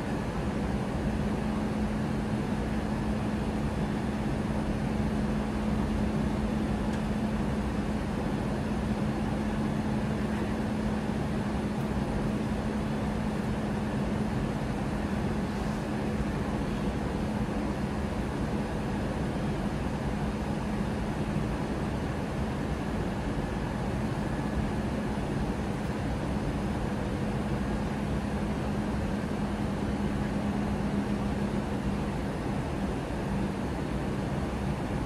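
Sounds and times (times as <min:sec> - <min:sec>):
airplane cabin air rush and engine drone: 0:00.0 - 0:35.0
constant low hum: 0:00.0 - 0:35.0.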